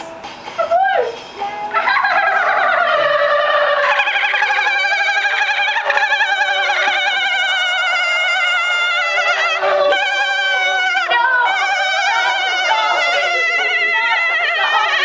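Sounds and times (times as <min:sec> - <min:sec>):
high-pitched warbling voice: 0:01.7 - 0:15.0.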